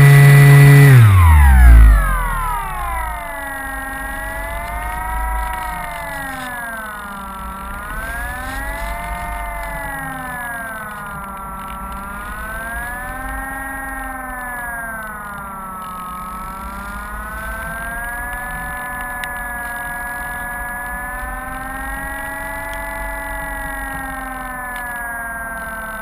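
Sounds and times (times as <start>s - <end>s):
electric motor and propeller whining: 0.0s - 26.0s.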